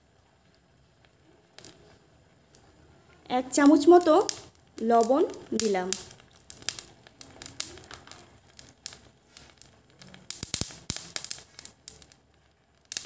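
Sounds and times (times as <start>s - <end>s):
pot clicking and crackling: 0.0s - 13.0s.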